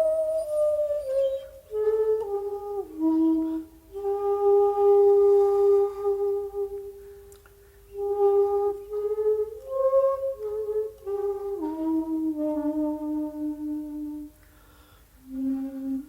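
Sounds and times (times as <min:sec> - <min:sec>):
shakuhachi flute playing: 0:00.0 - 0:16.0.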